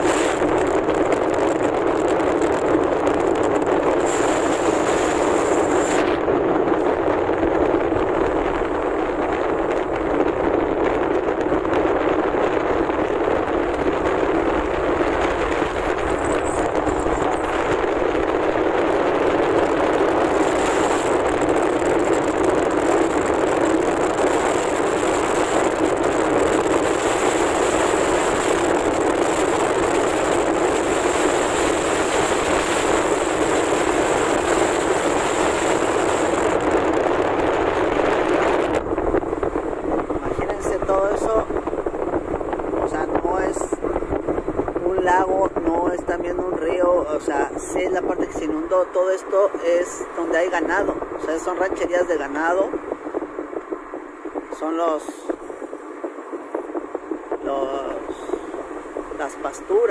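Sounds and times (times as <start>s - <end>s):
road noise: 0.0s - 59.9s
wind noise in moving car: 0.0s - 59.9s.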